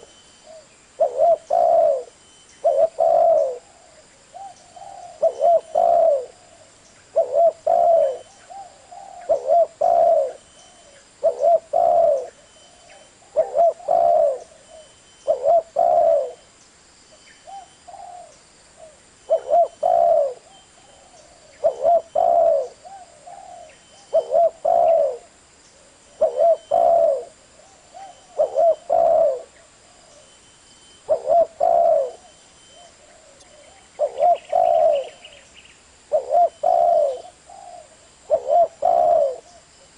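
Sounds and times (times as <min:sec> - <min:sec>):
dove cooing: 0:00.0 - 0:16.5, 0:17.4 - 0:30.4, 0:31.0 - 0:35.5, 0:36.1 - 0:39.9.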